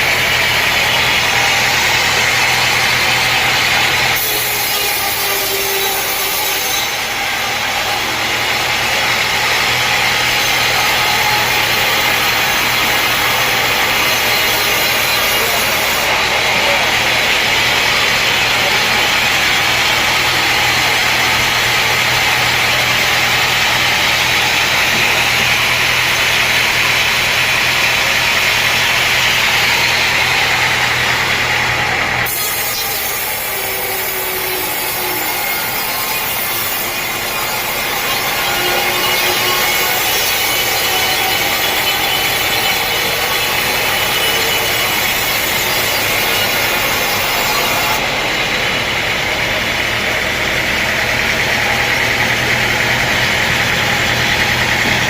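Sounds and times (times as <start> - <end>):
engine drone: 0.0 - 55.0
saw blade cutting wood: 0.0 - 55.0.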